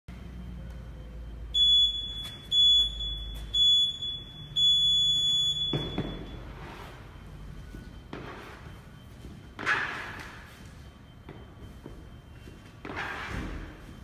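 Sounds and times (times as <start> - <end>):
timer beeps: 0.3 - 12.8.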